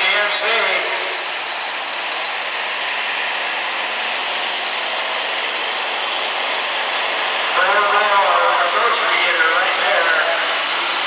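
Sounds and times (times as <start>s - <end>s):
truck engine running under load: 0.0s - 11.0s.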